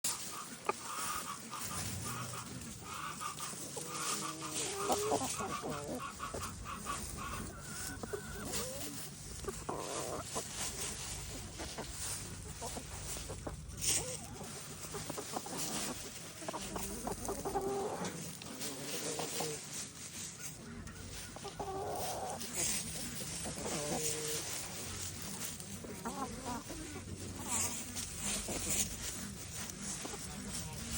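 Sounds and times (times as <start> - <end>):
chickens clucking: 0.0 - 30.9
scratching and rustling hay: 0.0 - 30.9.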